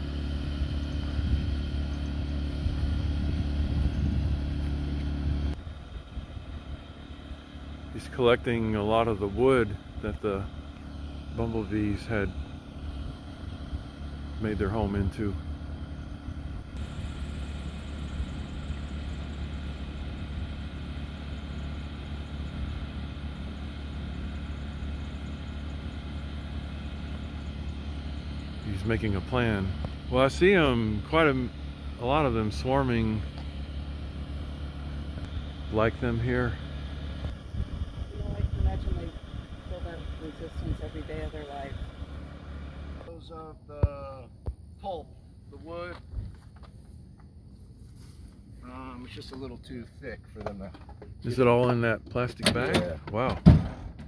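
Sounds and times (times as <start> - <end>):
motor idling hum: 0.0 - 54.0.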